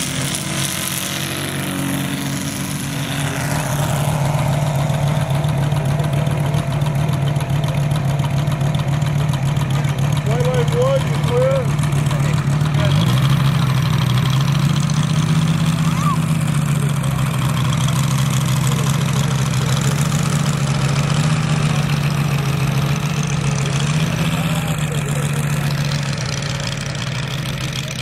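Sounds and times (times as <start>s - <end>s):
model airplane engine running: 0.1s - 28.0s.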